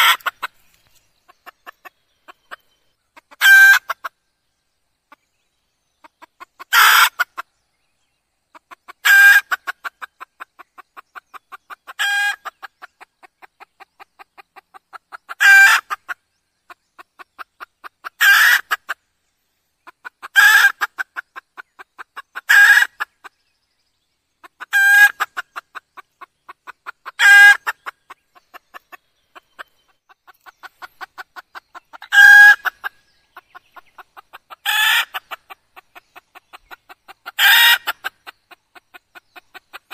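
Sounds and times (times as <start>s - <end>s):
hen clucking: 0.0s - 0.6s, 1.2s - 4.2s, 6.0s - 7.5s, 8.5s - 19.0s, 19.8s - 23.3s, 24.4s - 39.9s.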